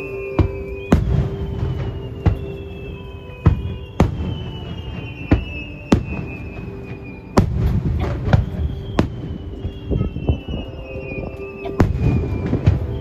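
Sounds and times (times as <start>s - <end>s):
fireworks bursting with bangs: 0.0s - 13.0s
fireworks rumble and crackle: 0.0s - 13.0s.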